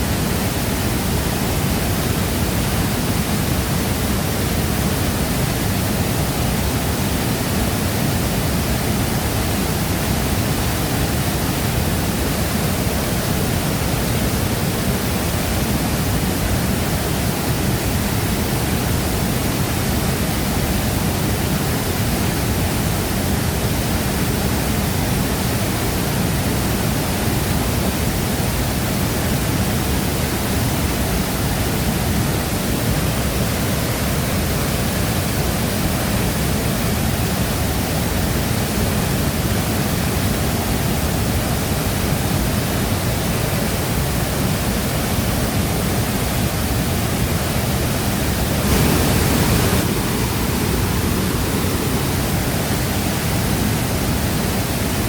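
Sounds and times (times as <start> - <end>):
waterfall crashing into pool: 0.0 - 55.0.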